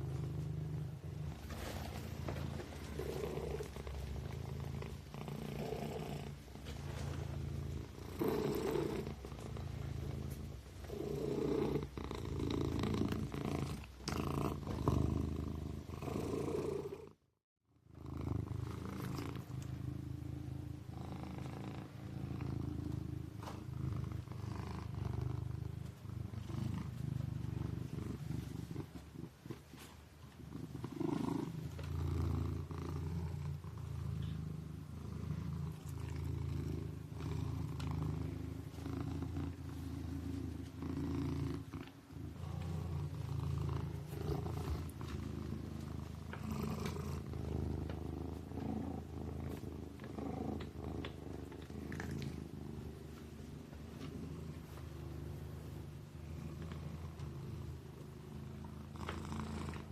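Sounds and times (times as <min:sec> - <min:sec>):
kitten purring: 0:00.0 - 0:17.2, 0:17.9 - 0:59.9.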